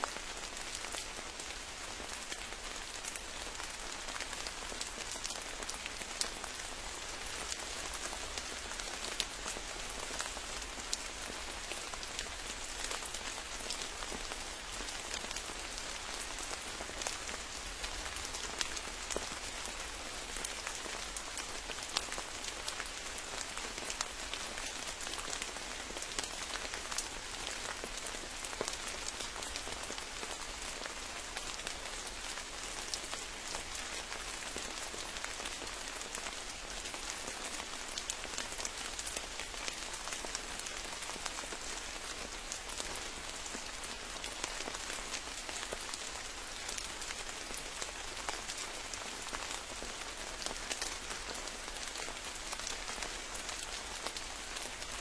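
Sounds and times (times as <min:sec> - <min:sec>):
rain pattering in a forest: 0:00.0 - 0:55.0
raindrops ticking close by: 0:00.0 - 0:55.0.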